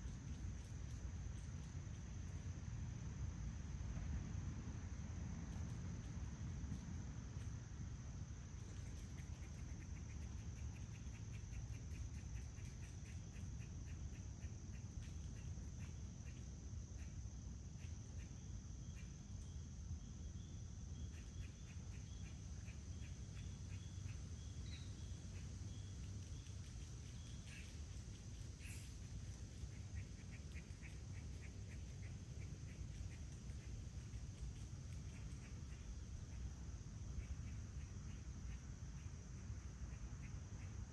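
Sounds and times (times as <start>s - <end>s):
crickets chirping: 0.0s - 40.9s
high-pitched insect whine: 4.8s - 40.9s.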